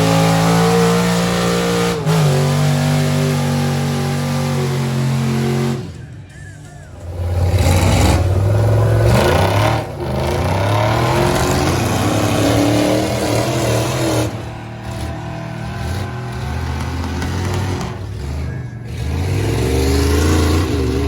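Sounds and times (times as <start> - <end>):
engine revving hard: 0.0 - 6.0, 7.0 - 21.0.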